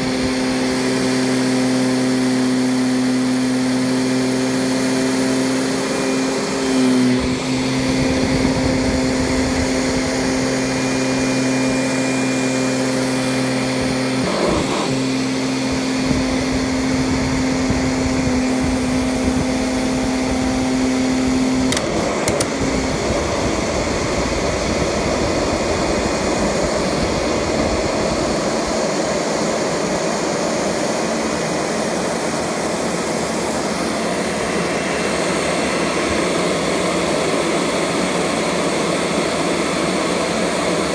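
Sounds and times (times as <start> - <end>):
vacuum cleaner running over carpet: 0.0 - 40.9.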